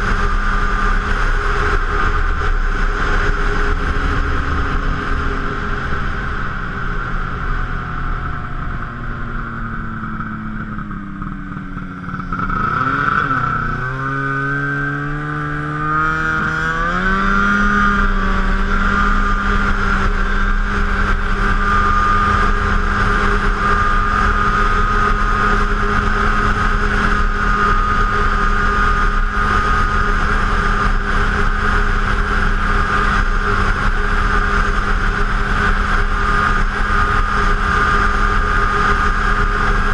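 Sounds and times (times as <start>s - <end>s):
snowmobile engine accelerating: 0.0s - 39.9s.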